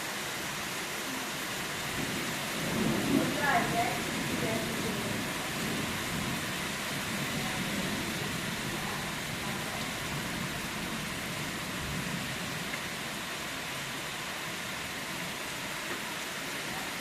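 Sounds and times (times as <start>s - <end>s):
rain pouring: 0.0s - 17.0s.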